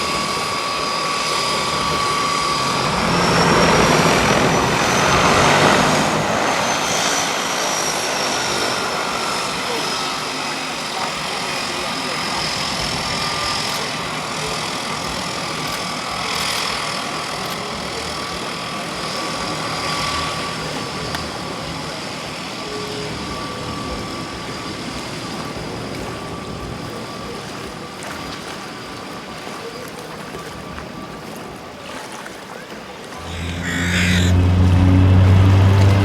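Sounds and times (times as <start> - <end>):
floatplane engine running: 0.0 - 36.0.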